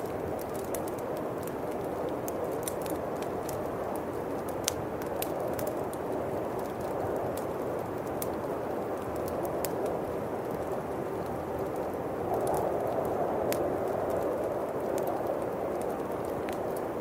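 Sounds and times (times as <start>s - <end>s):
bonfire crackling and popping: 0.0s - 17.0s
howling wind: 0.0s - 17.0s.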